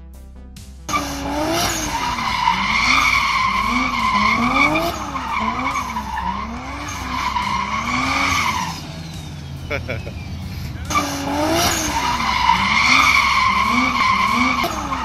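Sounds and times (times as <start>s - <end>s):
car engine revving: 0.6s - 15.0s
tyres squealing: 0.9s - 15.0s.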